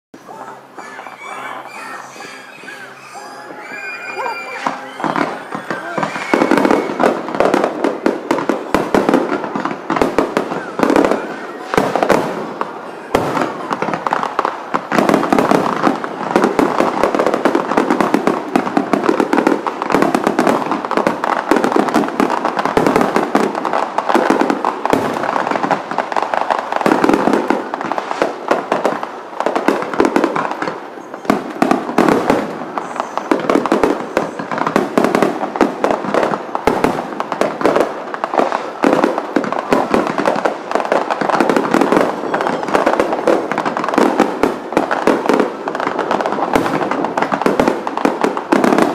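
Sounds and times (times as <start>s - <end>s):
fireworks bangs and pops: 0.1s - 48.9s.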